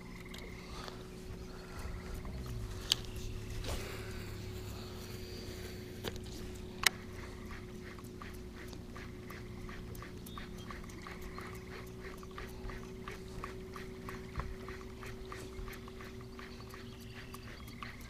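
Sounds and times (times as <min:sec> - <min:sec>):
steady low hum: 0:00.0 - 0:18.0
fishing reel clicking: 0:01.7 - 0:18.0.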